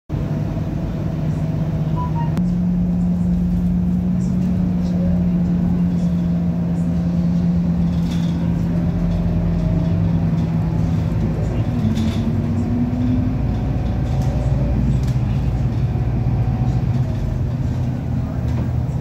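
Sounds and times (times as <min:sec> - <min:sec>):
bus engine droning: 0:00.1 - 0:19.0.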